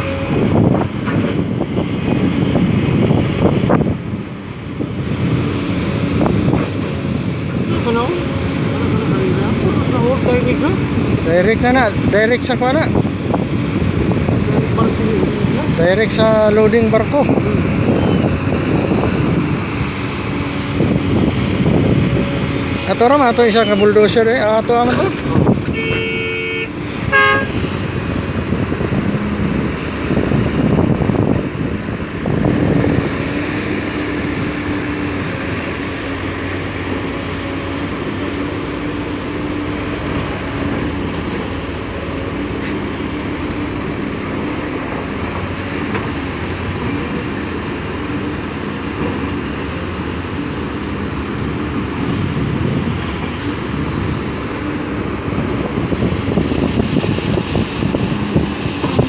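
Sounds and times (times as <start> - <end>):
excavator diesel engine rumbling: 0.0 - 59.0.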